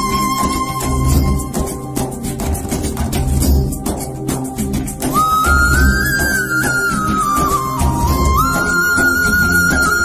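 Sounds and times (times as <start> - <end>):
background music with low beat: 0.0 - 10.0.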